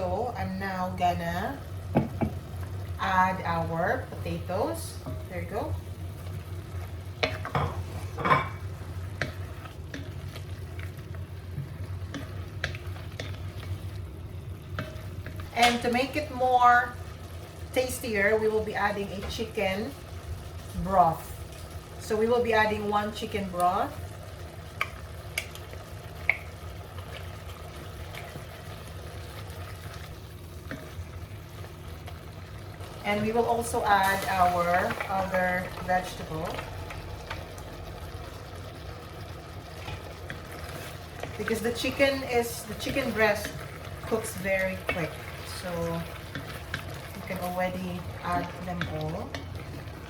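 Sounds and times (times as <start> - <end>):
food frying in oil: 0.0 - 50.0
low steady hum: 0.0 - 50.0
pot simmering: 0.0 - 50.0.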